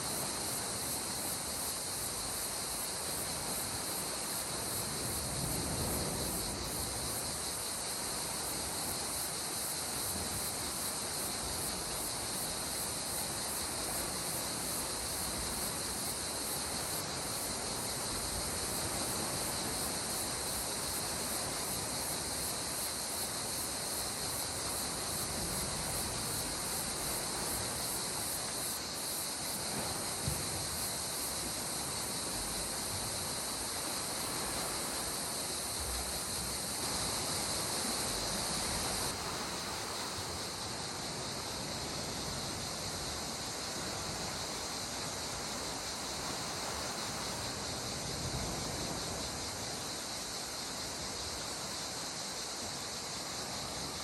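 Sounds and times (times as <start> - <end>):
sea water washing in swells: 0.0 - 54.0
steady high hiss: 0.0 - 54.0.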